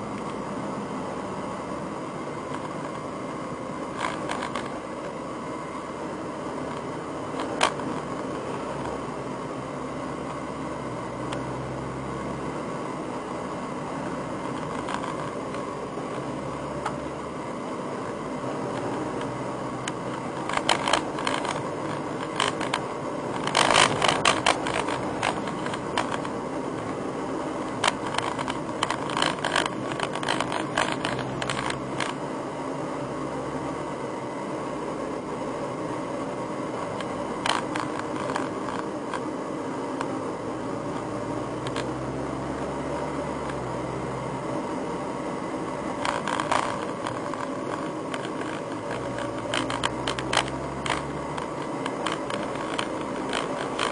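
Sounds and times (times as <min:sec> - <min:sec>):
car cabin hum: 0:00.0 - 0:53.9.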